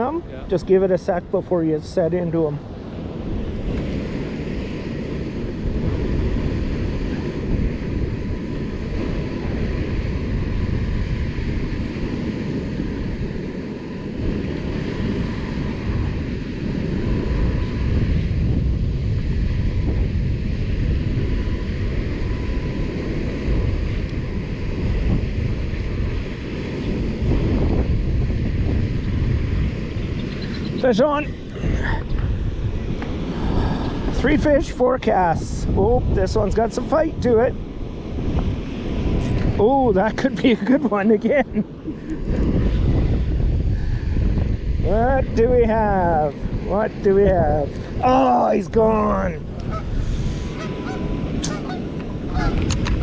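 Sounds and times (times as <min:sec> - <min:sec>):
open water rushing: 0:00.0 - 0:53.0
wind buffeting microphone: 0:00.0 - 0:53.0.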